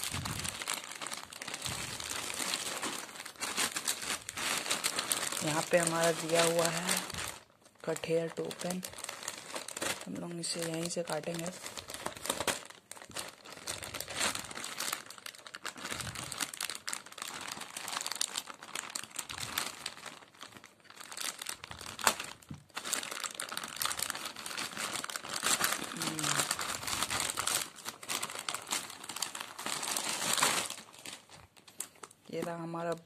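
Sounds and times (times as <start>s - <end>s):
plastic bag crinkling: 0.0s - 33.0s.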